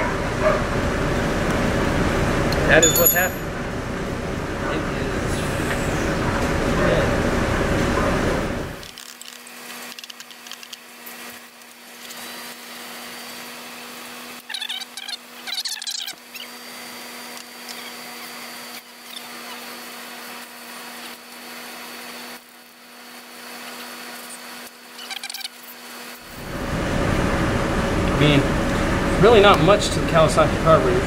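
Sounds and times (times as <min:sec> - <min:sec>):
steady hum: 0:00.0 - 0:08.9, 0:10.9 - 0:31.0.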